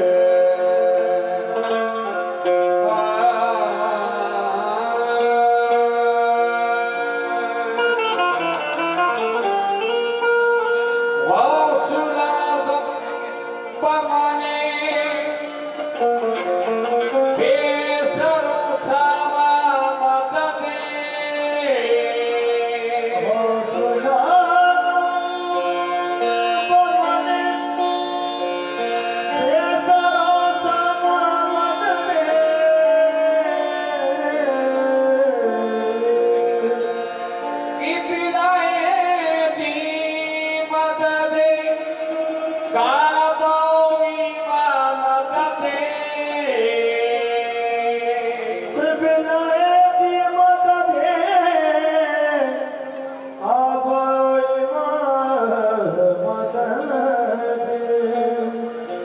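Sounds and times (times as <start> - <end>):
tabla drumming: 0.0 - 55.0
harmonium chords: 0.0 - 59.0
man singing: 0.0 - 59.0.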